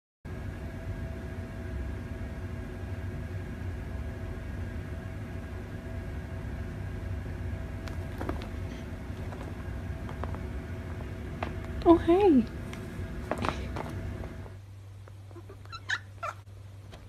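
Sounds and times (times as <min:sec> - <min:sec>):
low mechanical hum: 0:00.3 - 0:17.0.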